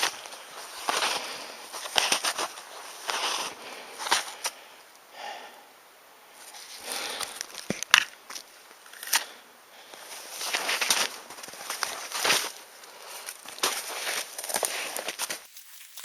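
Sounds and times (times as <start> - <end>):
footsteps crunching in snow: 0.0 - 4.6, 6.4 - 9.3, 9.9 - 16.0.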